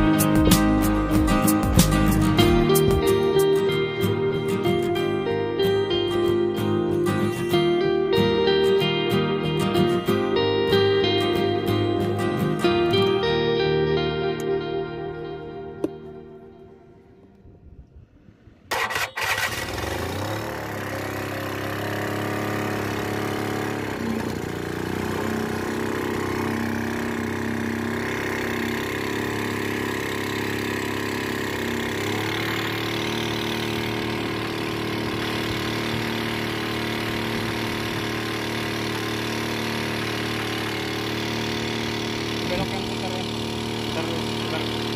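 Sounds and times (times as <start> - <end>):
small boat engine running: 0.0 - 13.1, 18.7 - 44.9.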